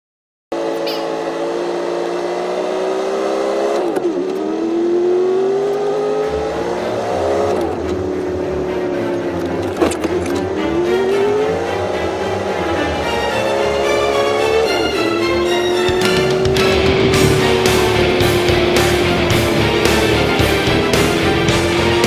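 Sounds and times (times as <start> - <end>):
vehicle engine accelerating: 0.5 - 22.0.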